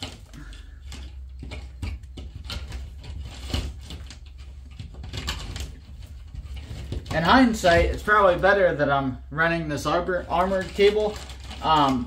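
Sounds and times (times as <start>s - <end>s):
plastic cable rustling and tapping: 0.0s - 8.6s, 9.8s - 12.0s.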